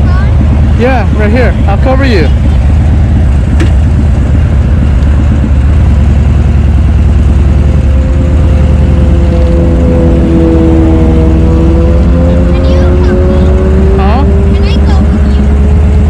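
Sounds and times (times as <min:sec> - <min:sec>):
engine hum: 0:00.0 - 0:16.0
motorcycle engine idling: 0:00.0 - 0:16.0
traffic: 0:00.0 - 0:16.0.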